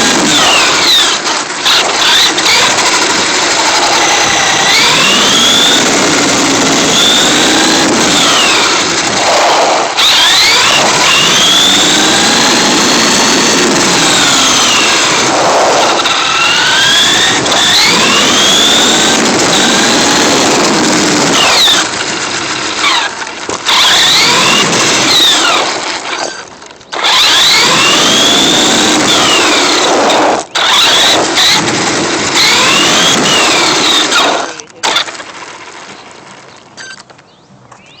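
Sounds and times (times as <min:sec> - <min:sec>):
electric motor whining: 0:00.0 - 0:37.1.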